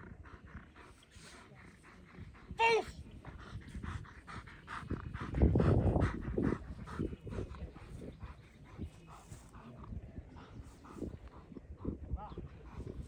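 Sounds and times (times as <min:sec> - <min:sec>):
dog panting: 0:00.0 - 0:13.0
low buffeting: 0:00.0 - 0:13.0.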